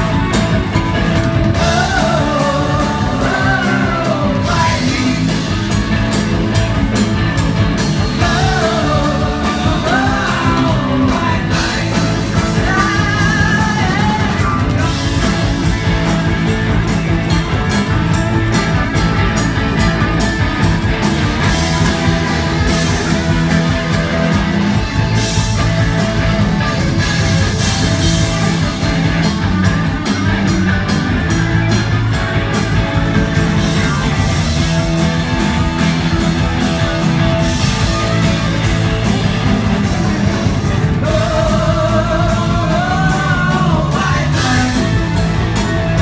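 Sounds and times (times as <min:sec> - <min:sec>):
live rock band playing: 0:00.0 - 0:46.0.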